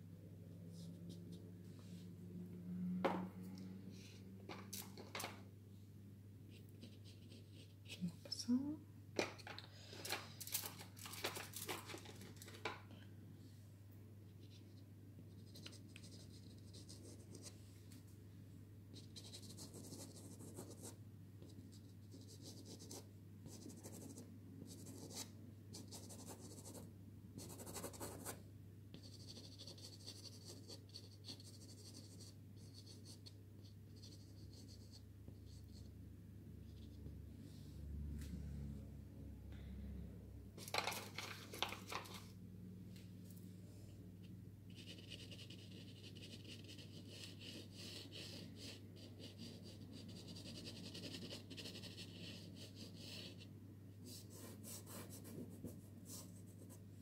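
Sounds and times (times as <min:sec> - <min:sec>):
low steady hum: 0:00.0 - 0:50.4.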